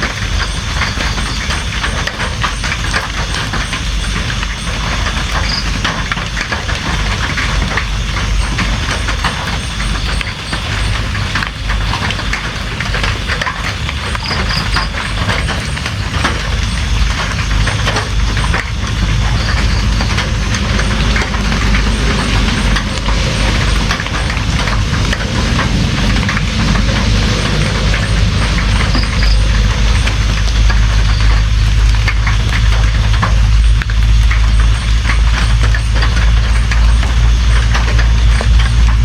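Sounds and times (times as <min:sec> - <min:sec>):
deep rumble: 0:00.0 - 0:39.0
heavy rain: 0:00.0 - 0:39.0.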